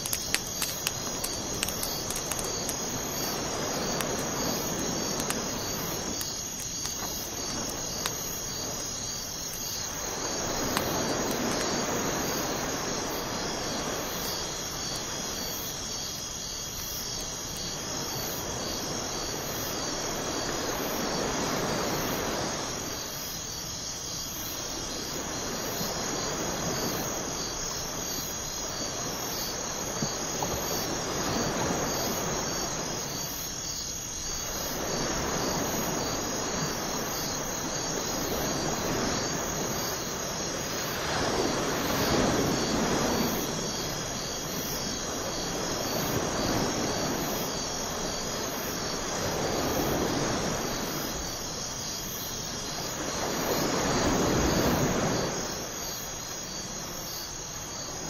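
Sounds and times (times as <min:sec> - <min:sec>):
crickets chirping: 0:00.0 - 0:58.0
ocean surf on sandy beach: 0:00.0 - 0:58.0.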